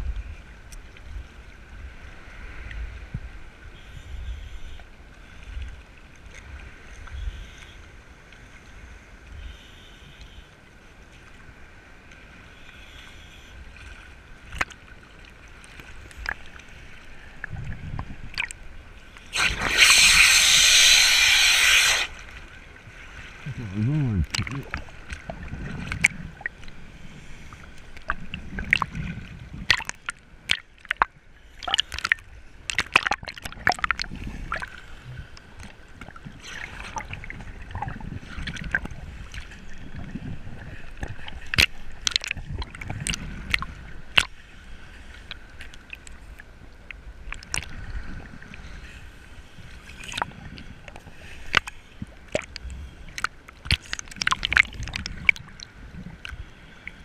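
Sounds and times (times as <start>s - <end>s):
water sloshing and gurgling: 10.6s - 57.0s.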